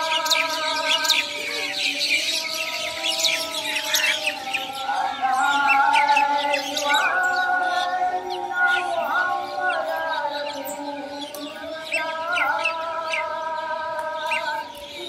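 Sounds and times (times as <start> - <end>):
birds chirping: 0.0 - 15.0
call to prayer over loudspeakers: 0.0 - 15.0.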